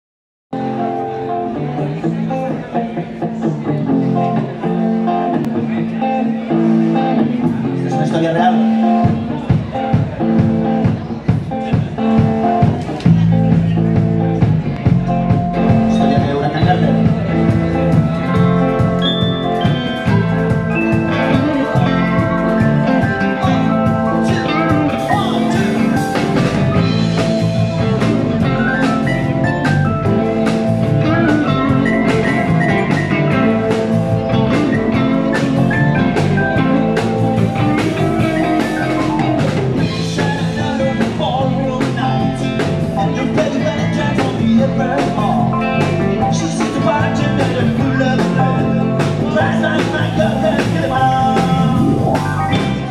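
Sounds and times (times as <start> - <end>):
electric bass: 0.6 - 52.9
electric guitars: 0.6 - 52.9
keyboard: 0.6 - 52.9
drum kit beat: 9.1 - 52.9.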